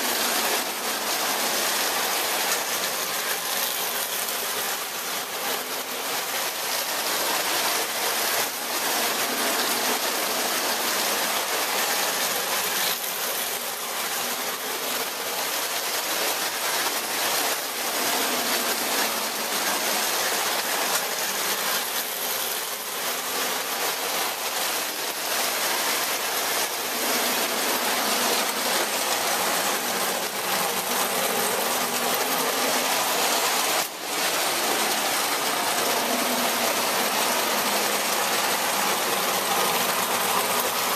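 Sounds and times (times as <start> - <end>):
toy trains rolling on metal track: 0.0 - 40.9.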